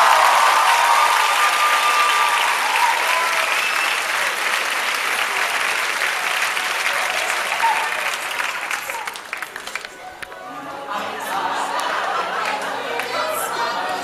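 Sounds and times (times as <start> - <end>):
audience applauding: 0.0 - 10.4, 11.0 - 14.0.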